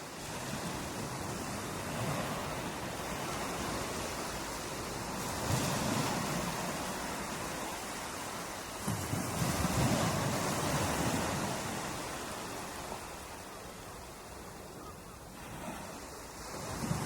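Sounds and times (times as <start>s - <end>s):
ocean waves crashing on beach: 0.0s - 17.0s.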